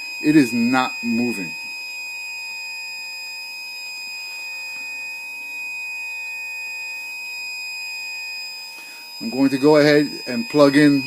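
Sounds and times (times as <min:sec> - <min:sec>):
high-pitched alarm tone: 0:00.0 - 0:11.0.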